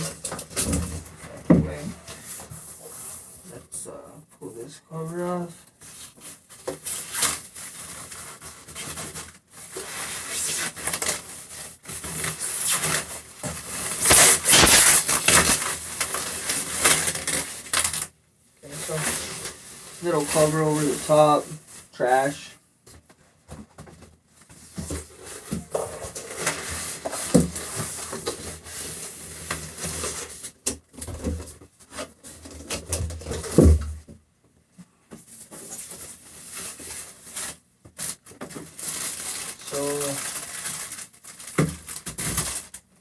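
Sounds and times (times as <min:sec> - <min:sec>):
plastic and cardboard rustling: 0:00.0 - 0:03.9, 0:04.9 - 0:34.2, 0:35.1 - 0:43.0.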